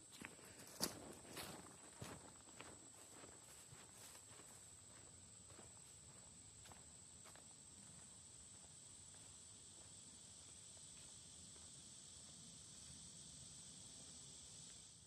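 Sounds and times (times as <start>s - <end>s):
soft footsteps on trail: 0.0s - 13.0s
high-pitched insect chorus: 0.1s - 15.0s.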